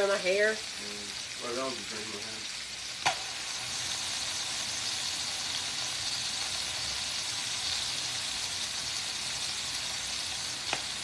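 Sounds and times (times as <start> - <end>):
chicken sizzling in skillet: 0.0 - 11.0.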